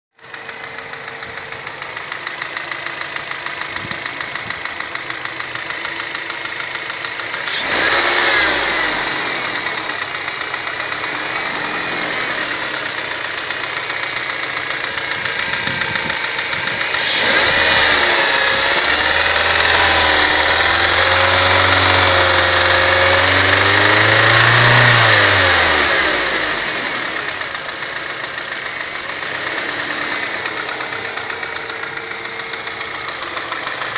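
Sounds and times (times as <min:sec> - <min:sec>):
car engine revving: 0:00.2 - 0:33.9
engine ticking clatter: 0:00.2 - 0:33.9.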